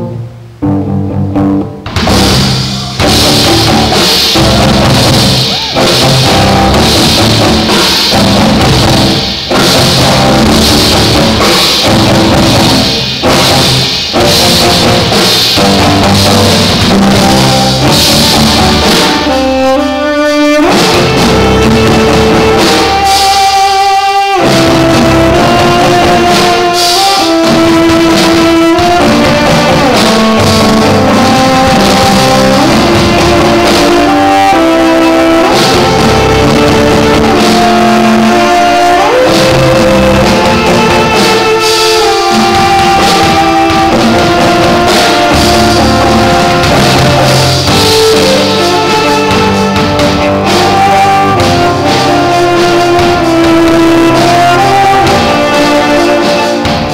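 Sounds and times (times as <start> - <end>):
drums: 0.0 - 56.9
cellos bowing long notes: 2.6 - 56.9.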